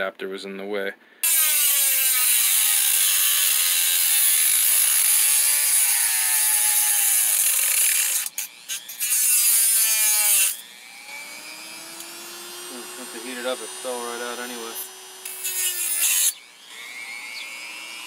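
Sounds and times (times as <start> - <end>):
rotary tool cutting metal: 1.2 - 18.0.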